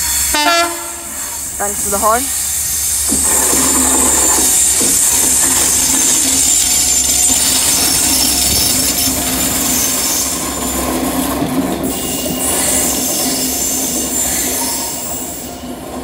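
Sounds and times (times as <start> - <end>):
diesel locomotive engine drone: 0.0 - 16.0
wheels on rails high-pitched noise: 0.0 - 16.0.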